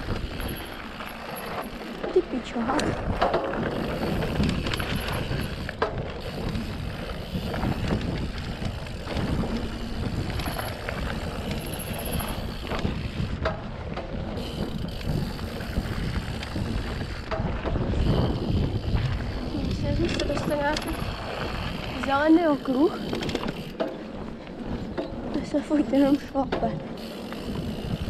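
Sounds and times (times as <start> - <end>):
bike clicks and knocks: 0.0 - 28.0
bike tyre noise: 0.0 - 28.0
wind rumble on microphone: 0.0 - 28.0.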